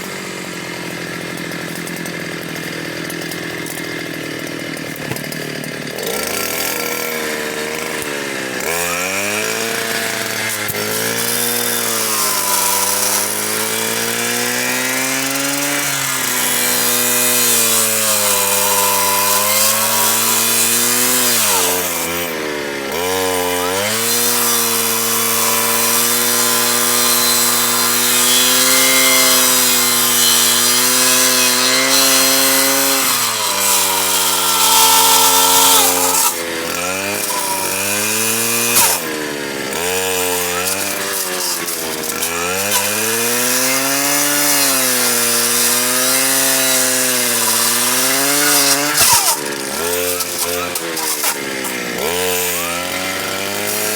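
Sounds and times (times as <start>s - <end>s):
saw blade cutting wood: 0.0s - 53.9s.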